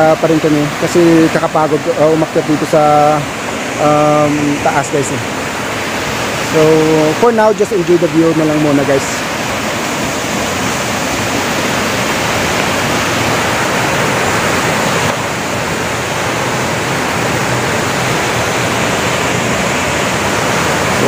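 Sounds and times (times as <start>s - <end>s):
waterfall rushing water: 0.0s - 21.0s.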